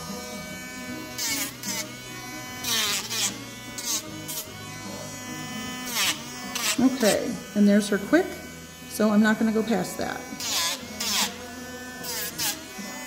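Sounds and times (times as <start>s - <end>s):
nail grinder whining: 0.0s - 13.0s
gritty rasp of nail filing: 0.8s - 13.0s.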